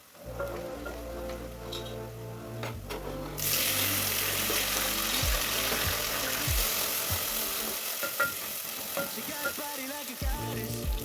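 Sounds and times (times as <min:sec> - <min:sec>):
vegetables sizzling in hot oil: 0:00.0 - 0:01.9, 0:03.4 - 0:11.0.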